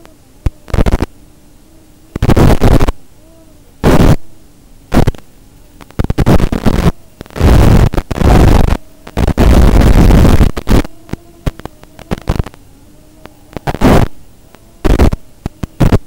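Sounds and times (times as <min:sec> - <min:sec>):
hissing radio static: 0:00.0 - 0:16.0.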